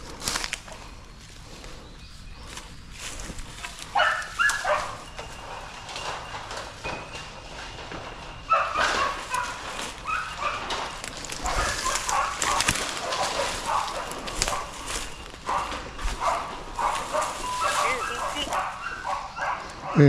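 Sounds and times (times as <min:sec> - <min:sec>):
hunting dogs baying: 0:00.0 - 0:20.0.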